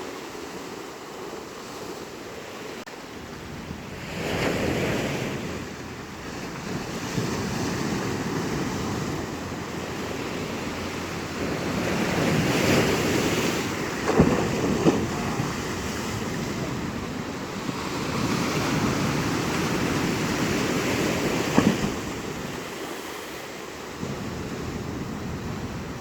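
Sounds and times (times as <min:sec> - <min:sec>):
sea surf breaking: 0:00.0 - 0:26.0
wind buffeting microphone: 0:02.9 - 0:22.8, 0:23.8 - 0:26.0.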